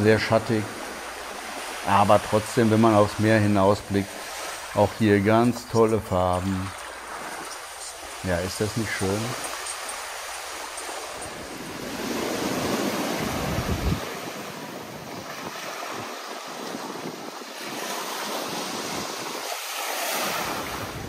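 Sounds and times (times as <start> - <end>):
sea surf rushing on sand: 0.0 - 21.0
wind buffeting microphone: 0.0 - 21.0.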